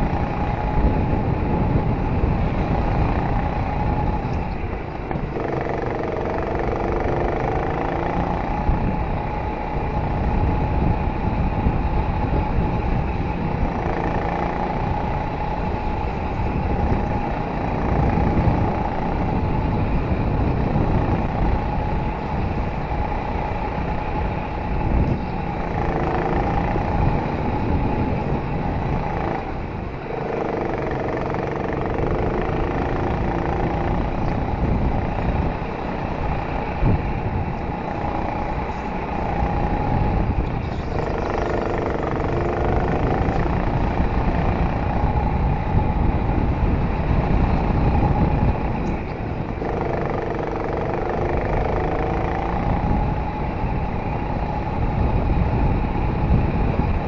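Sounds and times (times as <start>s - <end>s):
go-kart motor racing: 0.0s - 57.0s
wind and track noise: 0.0s - 57.0s.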